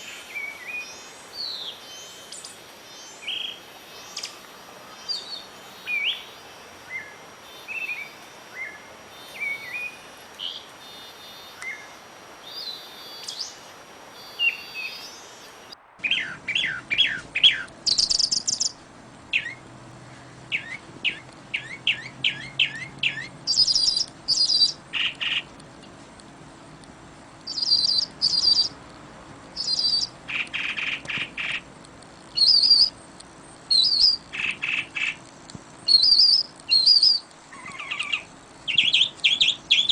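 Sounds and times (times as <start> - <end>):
songbirds chirping and calling: 0.0 - 26.0, 27.4 - 39.9
faint steady background hiss: 0.0 - 39.9.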